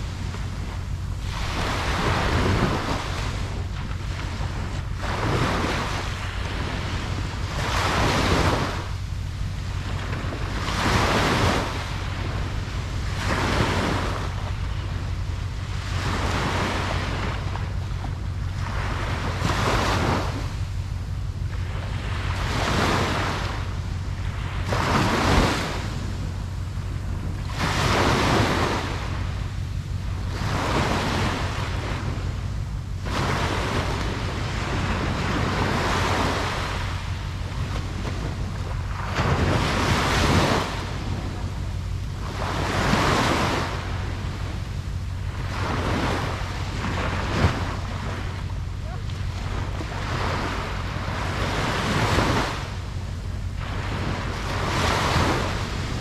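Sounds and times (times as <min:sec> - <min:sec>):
low rumble of wind: 0:00.0 - 0:56.0
ocean waves breaking on beach: 0:00.0 - 0:56.0.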